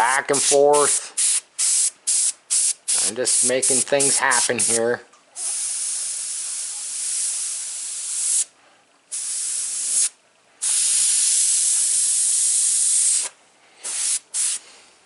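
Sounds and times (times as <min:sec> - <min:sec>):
airbrush hissing: 0:00.3 - 0:04.8, 0:05.4 - 0:08.5, 0:09.1 - 0:14.6.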